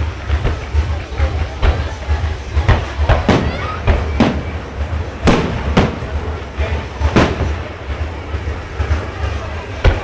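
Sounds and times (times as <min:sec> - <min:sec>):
firework crackle and rumble: 0:00.0 - 0:10.0
firework shells bursting: 0:00.0 - 0:10.0.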